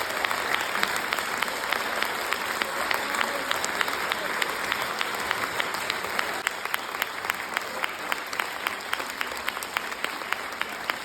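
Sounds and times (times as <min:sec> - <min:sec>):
audience applauding: 0:00.0 - 0:11.0
nearby hands clapping sharply: 0:00.0 - 0:11.0.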